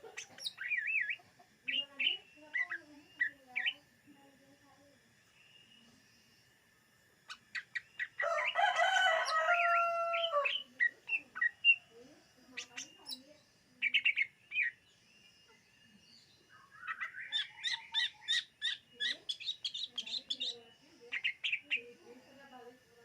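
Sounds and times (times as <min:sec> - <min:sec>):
bird singing varied song: 0:00.0 - 0:23.0.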